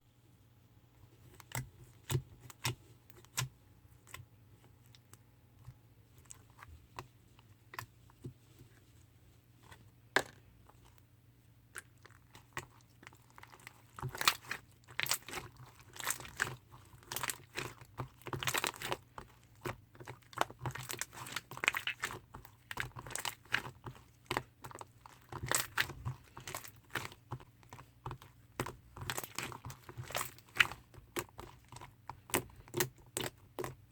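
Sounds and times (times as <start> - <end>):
hands kneading sticky slime: 1.0 - 33.9.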